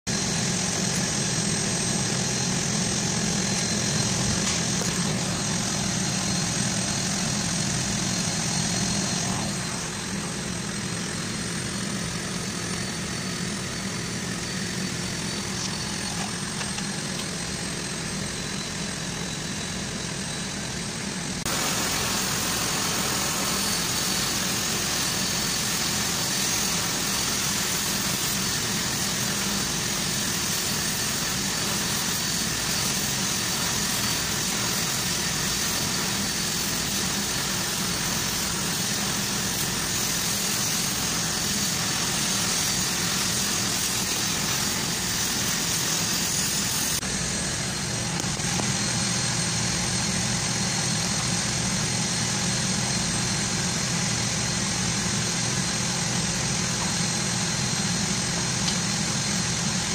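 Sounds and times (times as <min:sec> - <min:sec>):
arc welding hiss: 0:00.1 - 0:59.9
shop machinery drone: 0:00.1 - 0:59.9.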